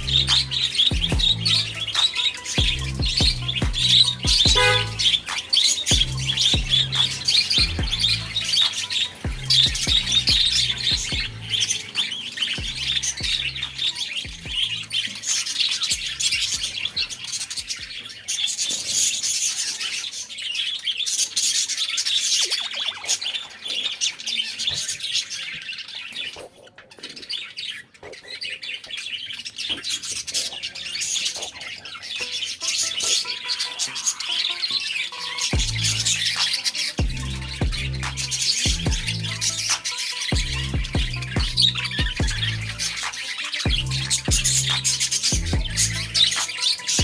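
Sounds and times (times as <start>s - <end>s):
budgerigar chirping and chattering: 0.0s - 47.0s.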